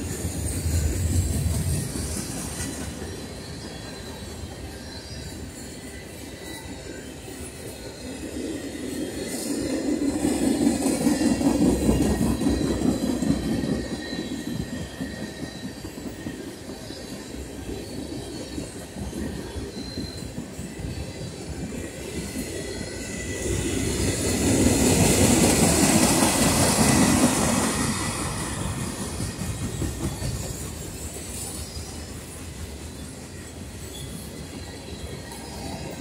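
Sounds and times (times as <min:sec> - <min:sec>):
freight train wheels rumbling: 0:00.0 - 0:36.0
faint wheel squeals: 0:00.3 - 0:36.0.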